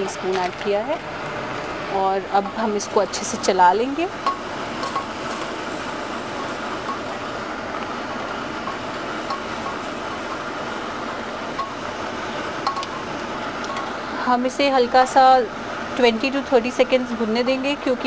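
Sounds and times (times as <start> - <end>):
spices frying in oil: 0.0 - 18.0.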